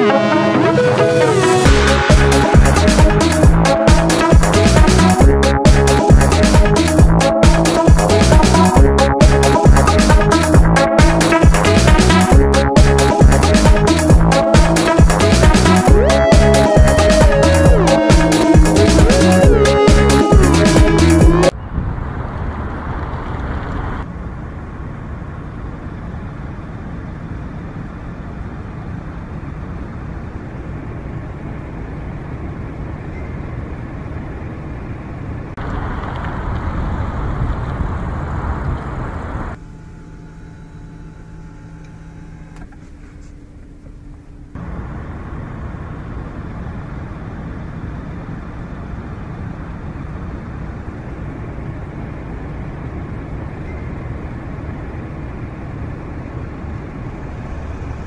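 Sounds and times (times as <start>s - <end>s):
diesel engine rumbling: 0.0s - 39.6s, 42.6s - 58.0s.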